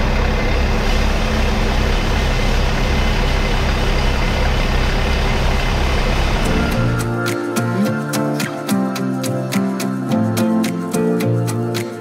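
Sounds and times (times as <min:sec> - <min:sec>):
tractor engine running: 0:00.0 - 0:11.7.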